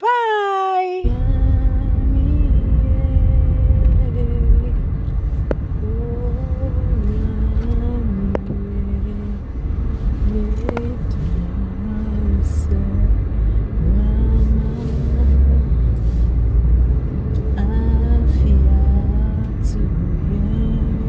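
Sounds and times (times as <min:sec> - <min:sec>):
car cabin rumble: 0:01.0 - 0:21.0.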